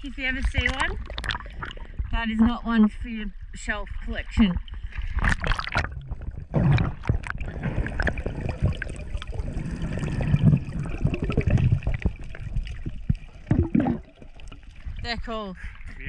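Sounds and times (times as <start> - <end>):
water sloshing and splashing: 0.2 - 16.0.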